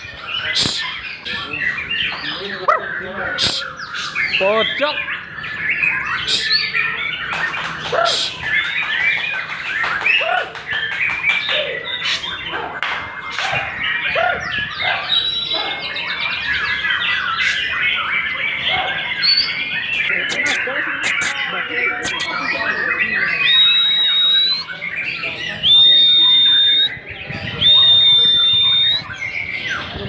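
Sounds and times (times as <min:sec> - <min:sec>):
songbird whistling and chattering: 0:00.0 - 0:30.0.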